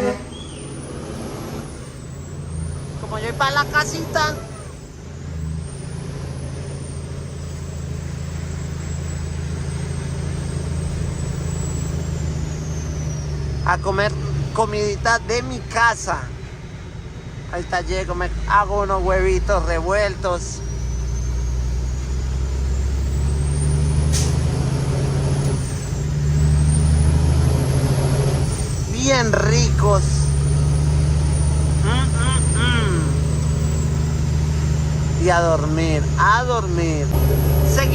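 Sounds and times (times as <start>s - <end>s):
diesel truck engine running: 0.0s - 37.9s.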